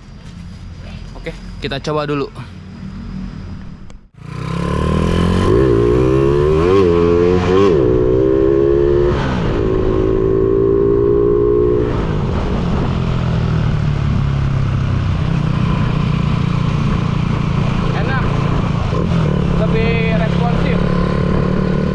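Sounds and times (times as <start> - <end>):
motorcycle engine accelerating: 2.6 - 21.9.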